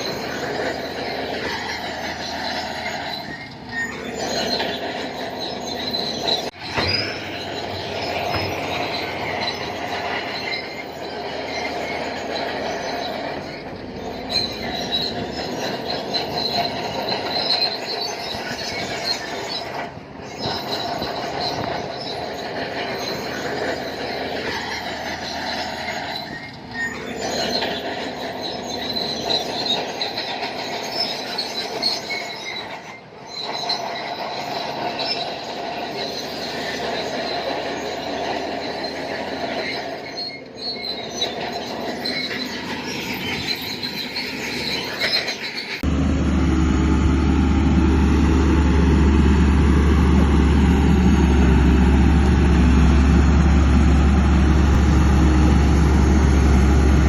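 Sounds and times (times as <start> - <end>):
bulldozer running under load: 0.0 - 57.0
steel tracks squealing and clanking: 0.0 - 57.0.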